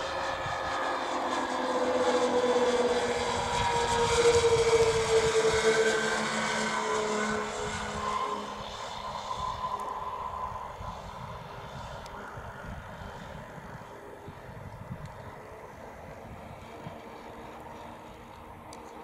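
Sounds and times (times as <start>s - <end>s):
model plane engines flying overhead: 0.0s - 19.0s.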